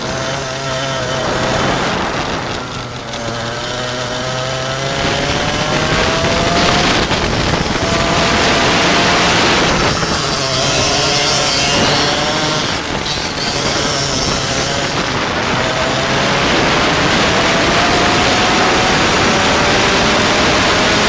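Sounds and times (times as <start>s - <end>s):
go-kart engine accelerating: 0.0s - 21.0s.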